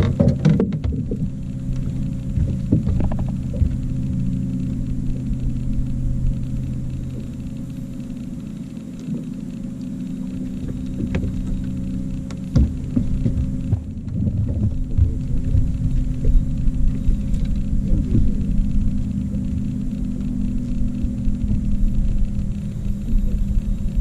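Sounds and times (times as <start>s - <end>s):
boat motor humming: 0.0s - 24.0s.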